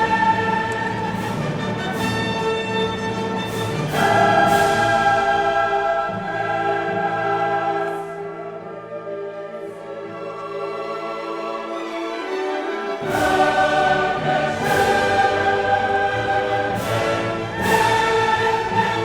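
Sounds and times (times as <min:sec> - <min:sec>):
choir with orchestra: 0:00.0 - 0:19.0.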